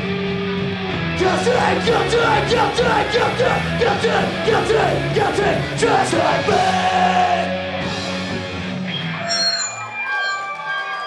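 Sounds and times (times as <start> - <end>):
punk band playing: 0.0 - 10.0.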